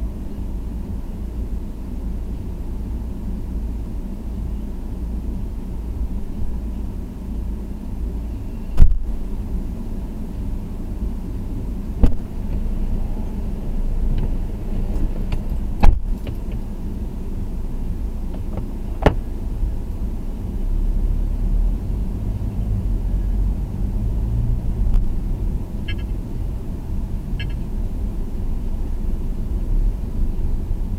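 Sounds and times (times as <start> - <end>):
road and engine rumble in a car: 0.0 - 30.9.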